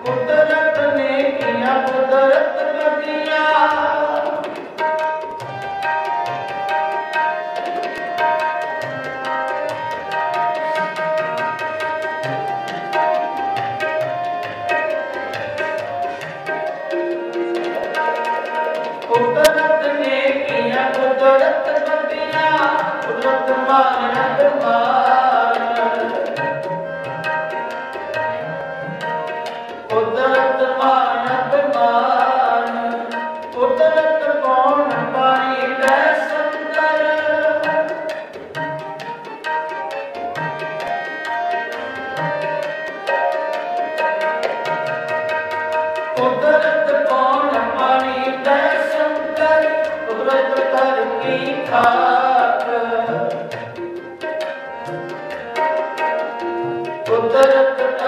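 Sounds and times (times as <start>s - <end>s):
harmonium melody: 0.0s - 58.0s
tabla strokes: 0.0s - 58.0s.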